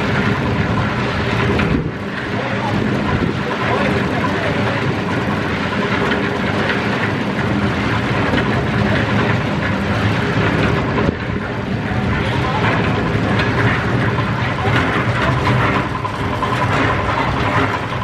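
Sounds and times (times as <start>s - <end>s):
machine engine running: 0.0s - 18.0s
rattling mechanical clatter: 0.0s - 18.0s.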